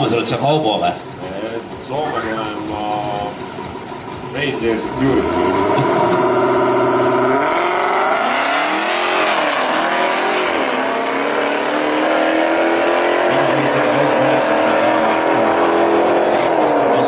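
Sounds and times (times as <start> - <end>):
drag race cars accelerating: 0.0 - 17.0.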